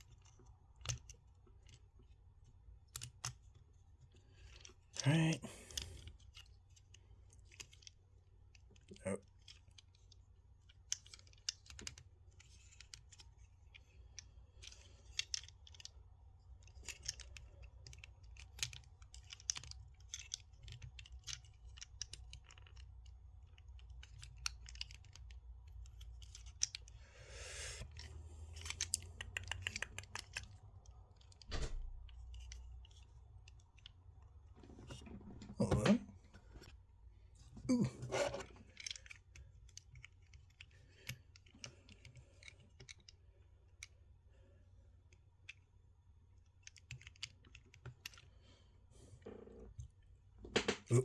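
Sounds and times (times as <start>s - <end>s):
plastic toy parts clicking: 0.0s - 27.0s, 27.8s - 34.3s, 38.1s - 44.2s, 46.4s - 48.4s.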